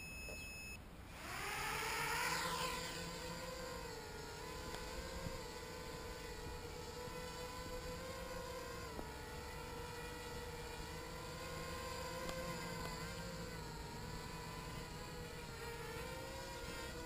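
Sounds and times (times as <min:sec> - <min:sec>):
quadcopter motors humming: 0:00.0 - 0:17.0.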